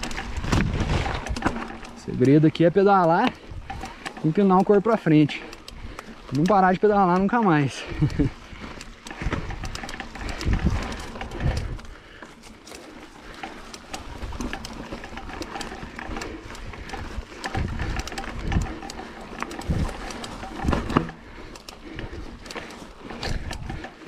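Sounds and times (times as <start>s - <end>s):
bike rattling and clicking over roots: 0.0s - 24.0s
rider breathing hard: 3.0s - 24.0s.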